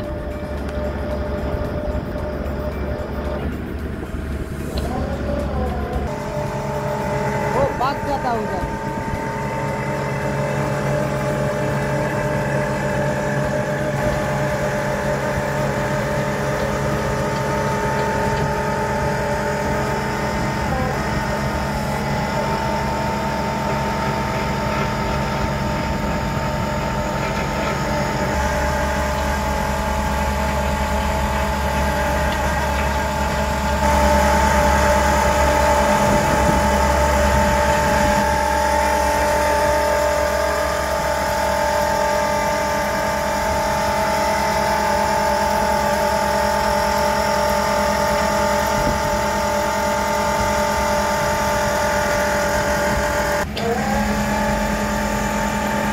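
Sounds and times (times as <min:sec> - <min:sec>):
auger whine: 0:00.0 - 0:55.9
excavator engine drone: 0:00.0 - 0:55.9.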